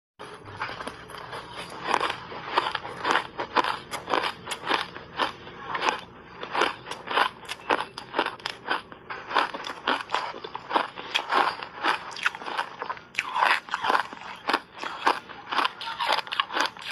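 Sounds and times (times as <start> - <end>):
person crunching shaved ice: 0.5 - 16.9.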